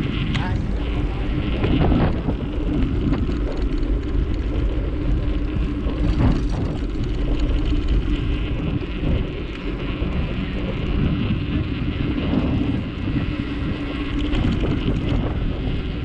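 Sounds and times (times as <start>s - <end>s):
bicycle rolling noise: 0.0s - 16.0s
wind buffeting microphone: 0.0s - 16.0s.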